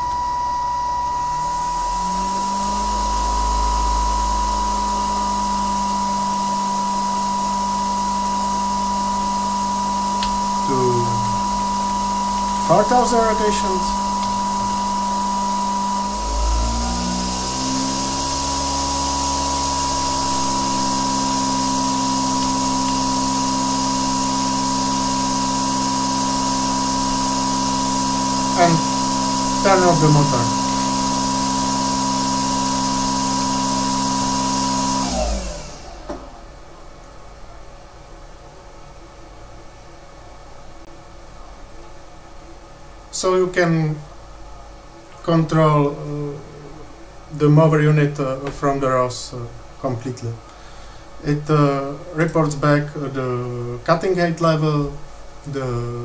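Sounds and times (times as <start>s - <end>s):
electric motor hum rising: 0.0s - 37.7s, 45.4s - 56.0s
steady high whine: 0.0s - 56.0s.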